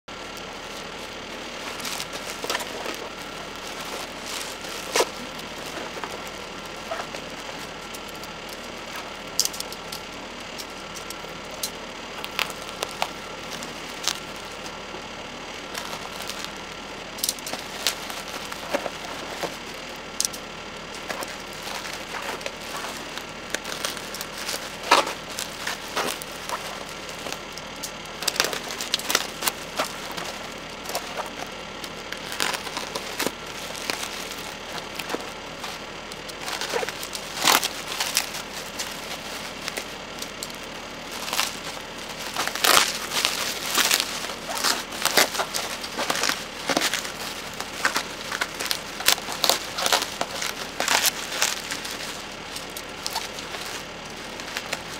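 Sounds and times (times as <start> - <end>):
packaging crinkling and rustling: 0.1 - 54.9.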